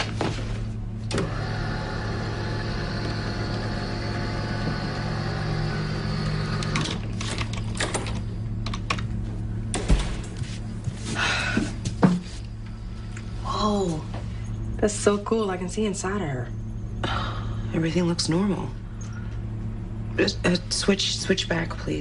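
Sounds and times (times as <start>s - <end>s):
scanner humming and whirring: 0.0s - 22.0s.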